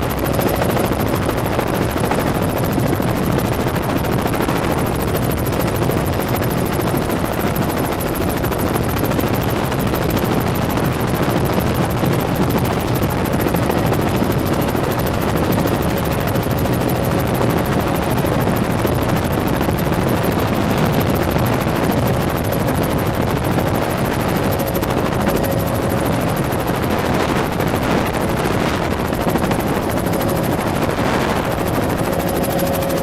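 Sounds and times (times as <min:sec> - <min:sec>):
helicopter rotor pulsing: 0:00.0 - 0:33.0.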